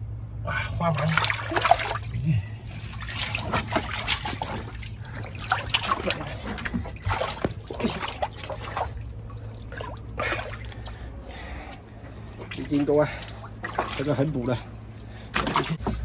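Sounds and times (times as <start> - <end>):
seawater splashing in rock pool: 0.9 - 11.1, 12.4 - 16.0.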